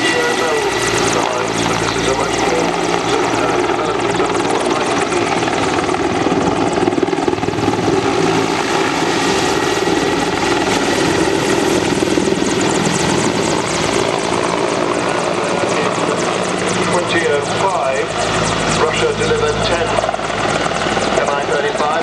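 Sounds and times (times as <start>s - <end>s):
helicopter rotor and turbine noise: 0.0s - 22.0s.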